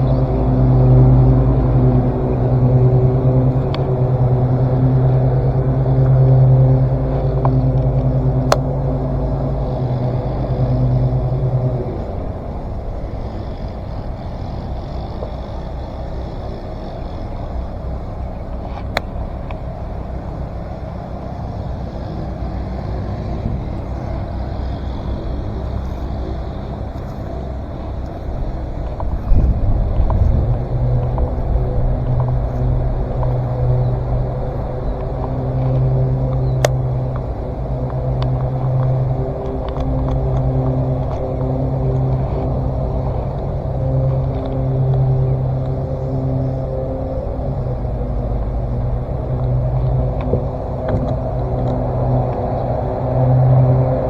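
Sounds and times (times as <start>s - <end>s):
outboard motor running: 0.0s - 54.0s
steady low rumble: 0.0s - 54.0s.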